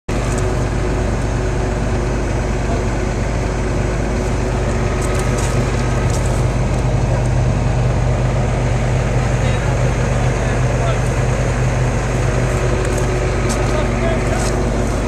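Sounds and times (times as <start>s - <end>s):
excavator diesel engine humming: 0.1s - 15.0s.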